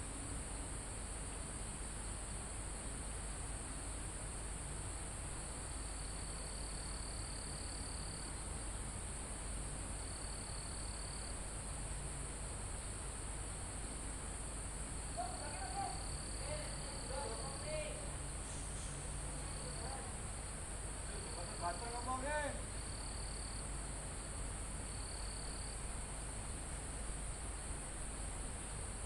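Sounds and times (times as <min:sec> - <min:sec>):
insects buzzing: 0:00.0 - 0:29.0
steady hiss: 0:00.0 - 0:29.0
lower insect trill: 0:00.4 - 0:29.0.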